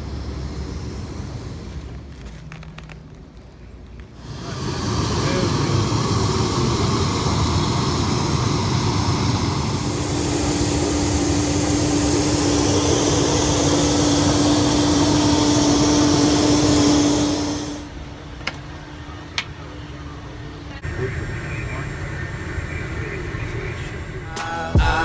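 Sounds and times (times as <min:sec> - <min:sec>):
steady hum: 0:00.0 - 0:02.4, 0:04.1 - 0:25.0
jet engines: 0:00.0 - 0:25.0.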